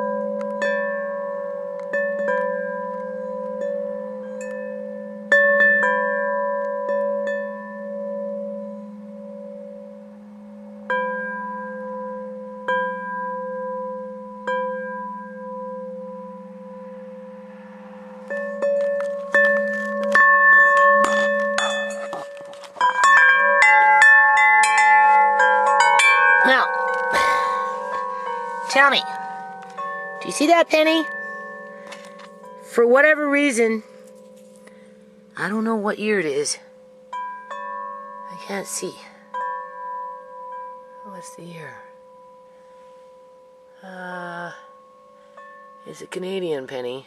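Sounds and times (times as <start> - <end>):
metal wind chime ringing: 0.0 - 47.0.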